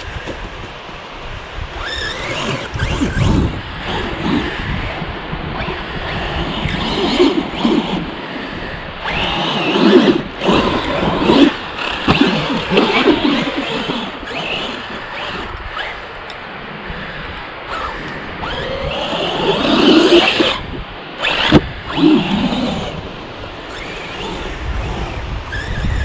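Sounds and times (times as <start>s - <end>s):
electric motor whining: 1.6s - 16.4s, 17.6s - 26.0s.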